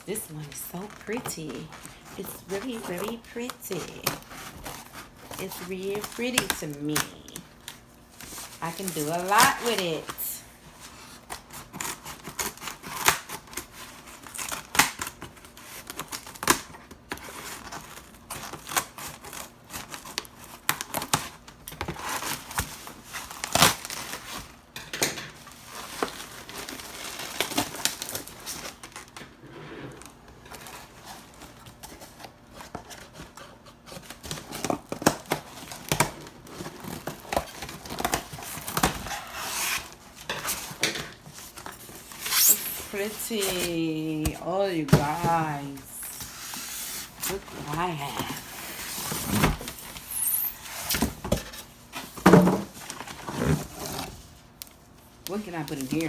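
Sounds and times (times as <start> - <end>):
wrapping crinkling and tearing: 0.1 - 24.6, 25.4 - 29.2, 30.4 - 56.0.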